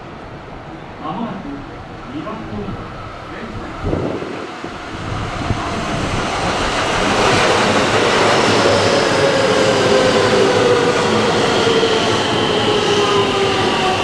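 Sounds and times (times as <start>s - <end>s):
faint train whine: 0.0s - 14.0s
train wheels rushing on rail: 0.0s - 14.0s.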